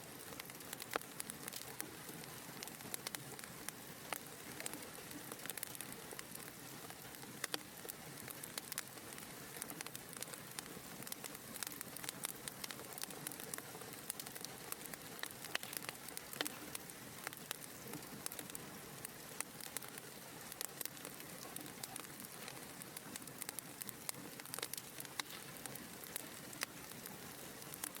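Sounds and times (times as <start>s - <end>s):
soft hiss of fire: 0.0s - 28.0s
wood fire crackling: 0.0s - 28.0s.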